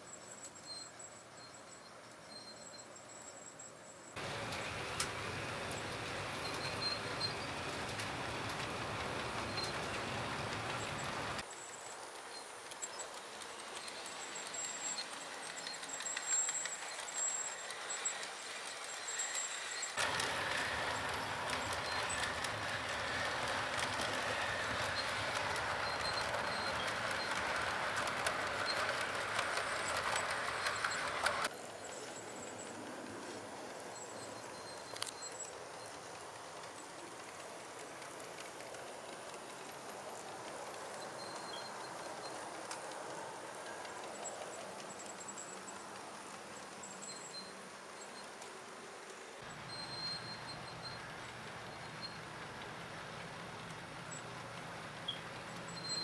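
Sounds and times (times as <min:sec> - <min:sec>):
model train rolling on track: 0:04.1 - 0:56.0.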